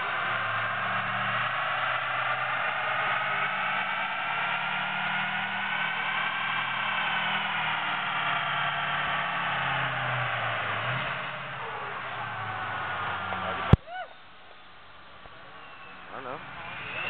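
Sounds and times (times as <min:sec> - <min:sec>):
dyno rollers whining: 0:00.0 - 0:13.8
truck engine under load: 0:00.0 - 0:13.8.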